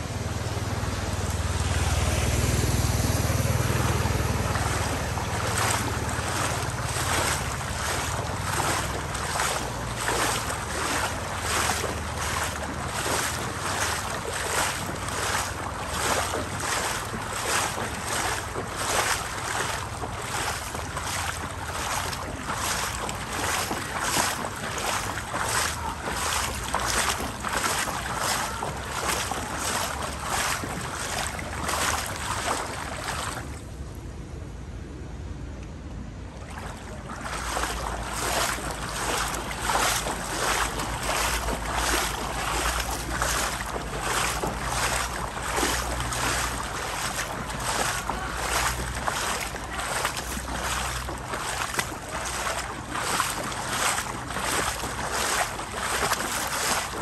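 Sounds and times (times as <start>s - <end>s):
footsteps wading through water: 0.0s - 33.8s, 36.2s - 57.0s.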